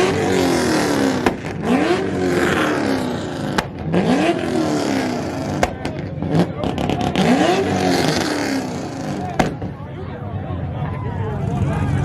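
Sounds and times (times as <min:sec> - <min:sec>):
car engine revving hard: 0:00.0 - 0:09.7.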